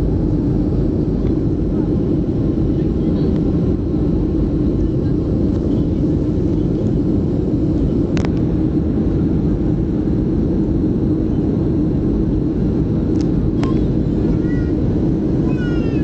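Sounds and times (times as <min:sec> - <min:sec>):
aircraft engines droning: 0:00.0 - 0:16.0.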